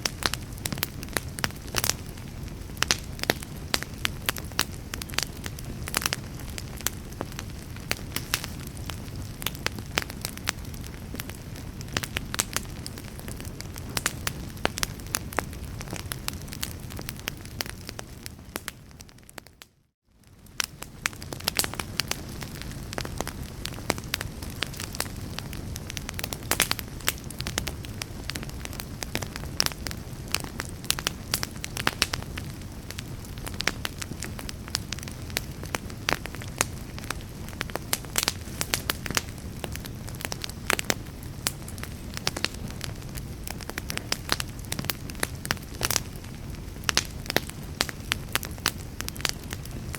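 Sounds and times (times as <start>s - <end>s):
low rumble of flame: 0.0s - 49.9s
wood fire crackling and popping: 0.0s - 49.9s.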